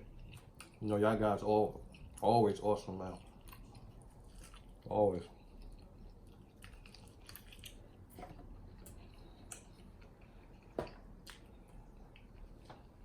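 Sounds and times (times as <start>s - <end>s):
chewing with wet mouth clicks: 0.0s - 13.0s.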